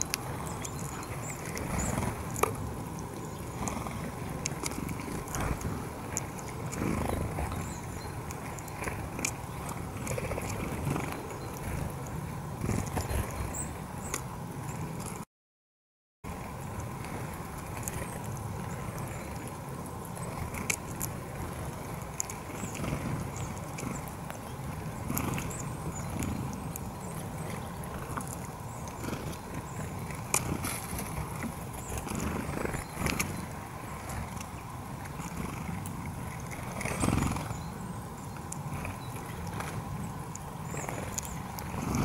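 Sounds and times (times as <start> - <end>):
faint steady hum: 0.0 - 15.2, 16.3 - 42.0
rustle: 0.0 - 15.2, 16.3 - 42.0.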